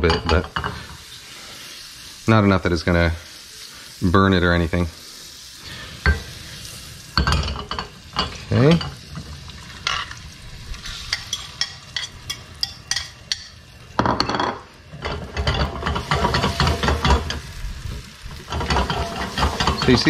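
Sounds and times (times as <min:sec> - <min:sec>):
eggs sizzling in pan: 0:00.0 - 0:20.0.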